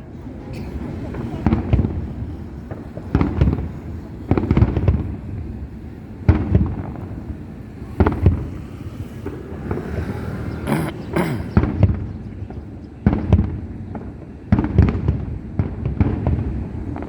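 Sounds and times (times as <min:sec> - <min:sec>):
fireworks booming: 0:00.1 - 0:17.0.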